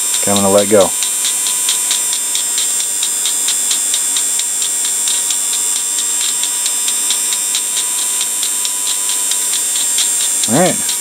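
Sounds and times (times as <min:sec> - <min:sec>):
motor high-pitched whir: 0:00.0 - 0:11.0
regular ticking: 0:00.0 - 0:11.0.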